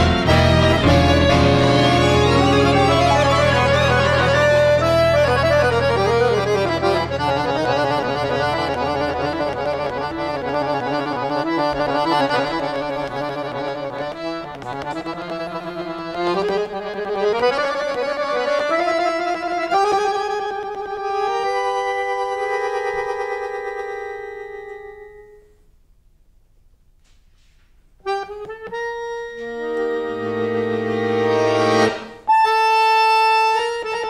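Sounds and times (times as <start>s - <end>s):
bandoneon chords and melody: 0.0s - 25.6s, 28.0s - 34.0s.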